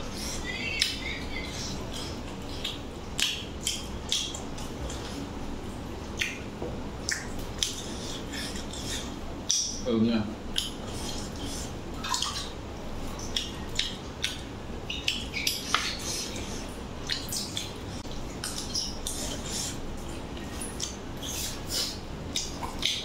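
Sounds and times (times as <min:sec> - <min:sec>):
chewing and lip smacks: 0:00.1 - 0:05.4, 0:06.0 - 0:09.8, 0:10.4 - 0:23.0.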